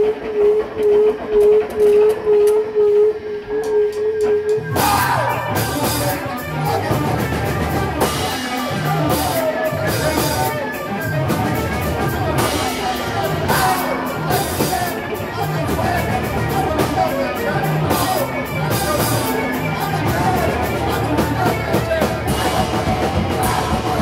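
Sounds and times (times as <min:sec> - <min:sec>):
band with drums and distorted guitars: 0:03.4 - 0:24.0.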